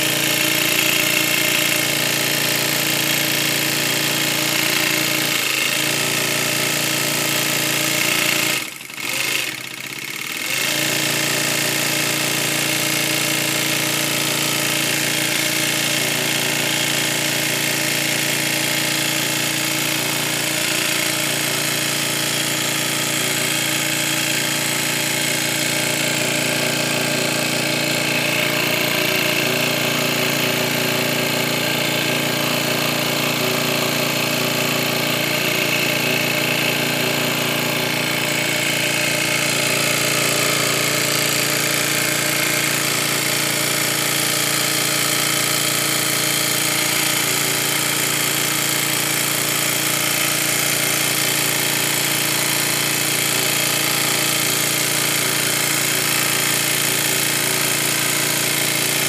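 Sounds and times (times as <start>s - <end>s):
sewing machine stitching: 0.0s - 59.0s.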